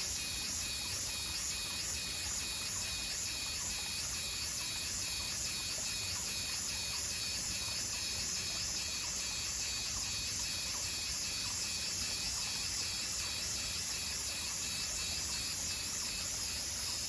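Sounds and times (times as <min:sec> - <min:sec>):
insects humming and pulsing: 0:00.0 - 0:17.0.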